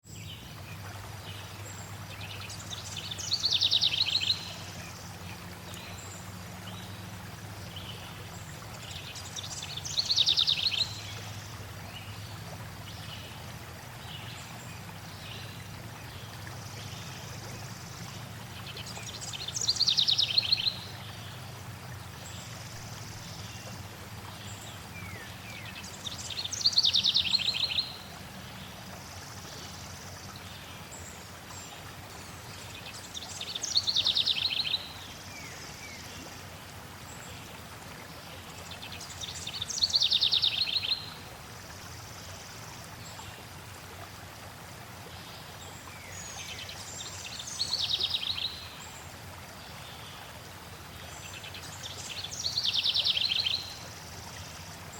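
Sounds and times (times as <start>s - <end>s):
flowing water: 0.0s - 54.9s.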